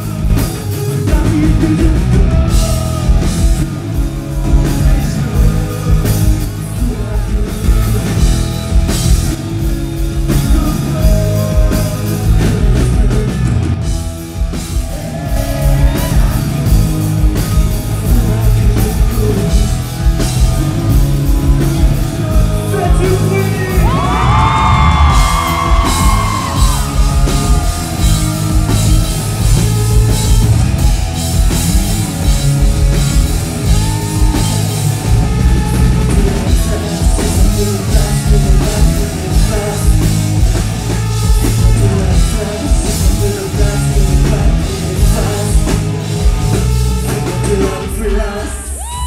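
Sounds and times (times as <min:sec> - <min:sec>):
person singing: 0:00.0 - 0:08.3, 0:10.2 - 0:13.7, 0:14.7 - 0:30.6, 0:32.9 - 0:40.5, 0:41.2 - 0:49.0
drum kit beat: 0:00.0 - 0:49.0
live rock band playing: 0:00.0 - 0:49.0.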